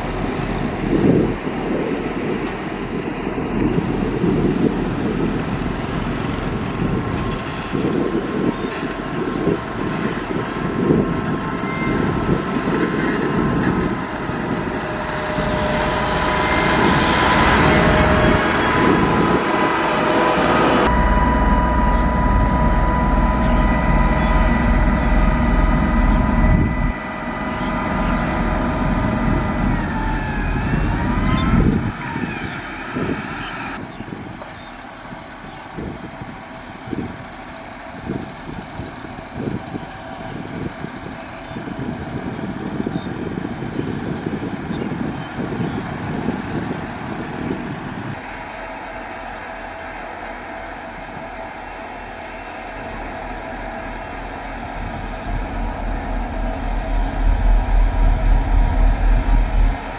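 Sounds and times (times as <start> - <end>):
diesel engine rumbling: 0.0 - 59.9
held engine whine: 0.0 - 59.9.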